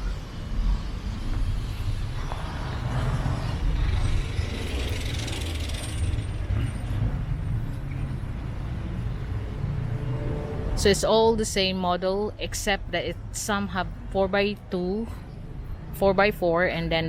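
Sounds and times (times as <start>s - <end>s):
road traffic rumbling: 0.0s - 17.0s.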